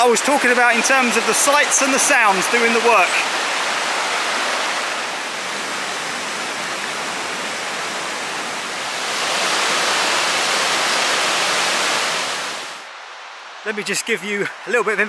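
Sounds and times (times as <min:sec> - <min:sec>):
river running over boulders: 0:00.0 - 0:12.9
waterfall roaring: 0:00.0 - 0:14.8.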